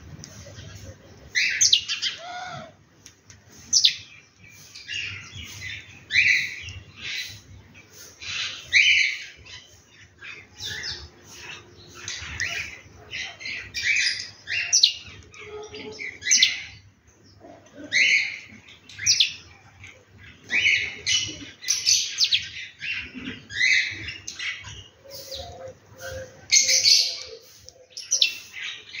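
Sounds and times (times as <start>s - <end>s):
small birds chirping harshly: 0.1s - 29.0s.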